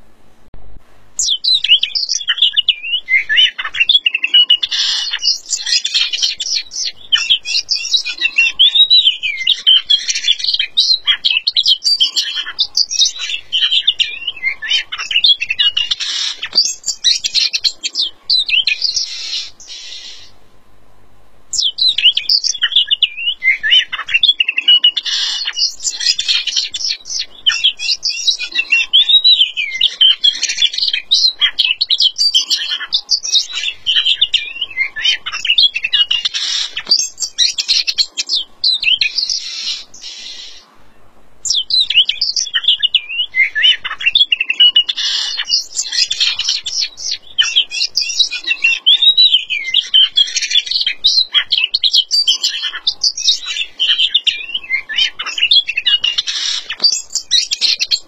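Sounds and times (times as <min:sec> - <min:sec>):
bird singing whistled phrases: 0:01.2 - 0:20.3, 0:21.5 - 0:40.6, 0:41.5 - 0:58.0.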